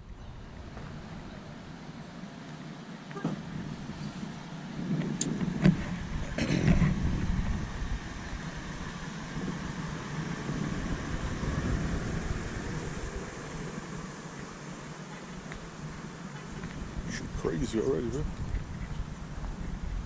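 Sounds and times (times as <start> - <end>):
wind and vehicle rumble: 0.0 - 20.0.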